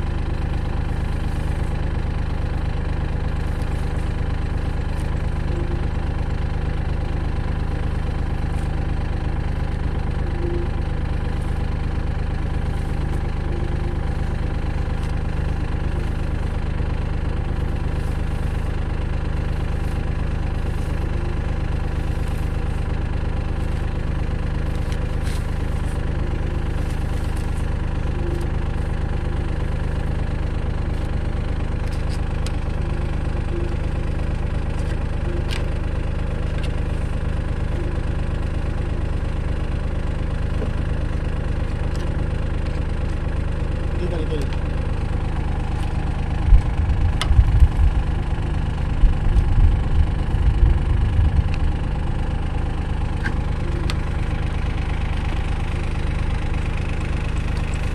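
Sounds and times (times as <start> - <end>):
tractor diesel engine idling: 0.0 - 57.9.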